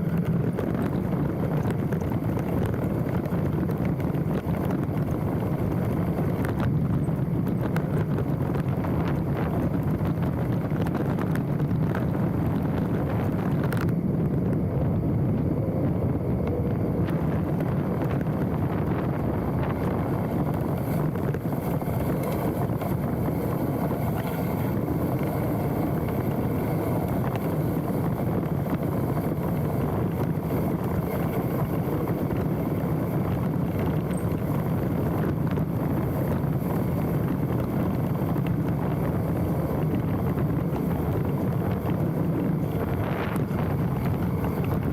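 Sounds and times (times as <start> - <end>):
bike tyre and trail noise: 0.0 - 44.9
wind rush on microphone: 0.0 - 44.9.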